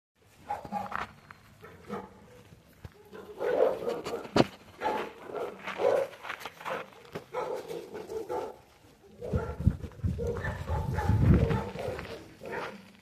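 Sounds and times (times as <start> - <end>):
dogs barking: 0.4 - 1.0, 1.6 - 2.4, 3.0 - 6.1, 6.7 - 12.9.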